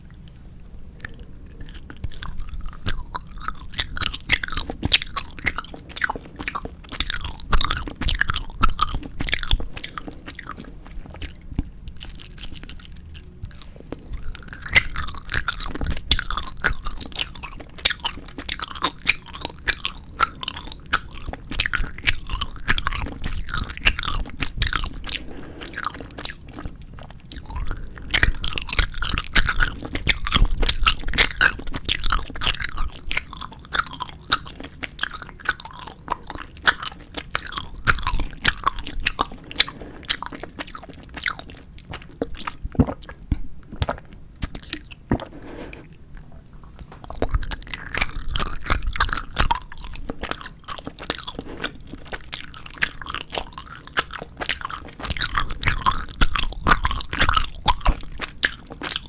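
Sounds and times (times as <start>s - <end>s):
wet chewing of gummy candy: 0.0s - 59.0s.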